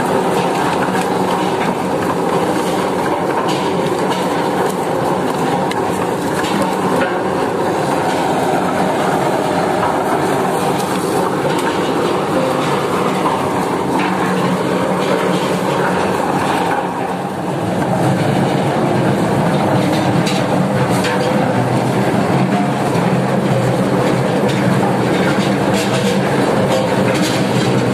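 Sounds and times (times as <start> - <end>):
tractor engine: 0.0 - 27.9.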